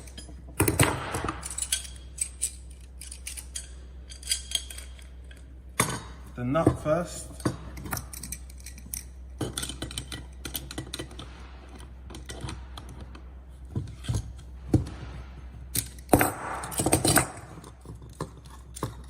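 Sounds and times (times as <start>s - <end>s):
spanner clinking on metal nut: 0.0s - 6.2s, 7.3s - 13.2s, 15.7s - 19.0s.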